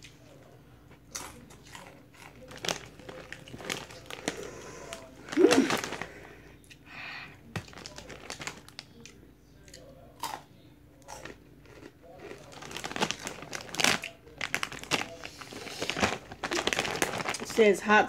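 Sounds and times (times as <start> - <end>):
chips crunching: 0.9 - 6.8, 7.4 - 17.6
chip bag crinkling: 1.0 - 6.5, 7.4 - 10.4, 11.0 - 17.8.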